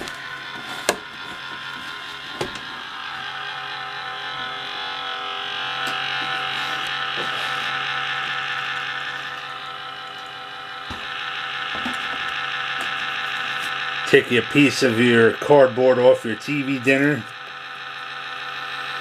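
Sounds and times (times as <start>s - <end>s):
laptop cooling fan whirring: 0.0s - 19.0s.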